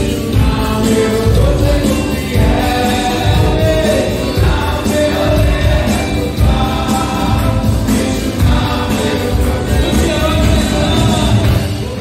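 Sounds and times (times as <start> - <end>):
group singing a worship song: 0.0 - 12.0
musical accompaniment with steady beat: 0.0 - 12.0.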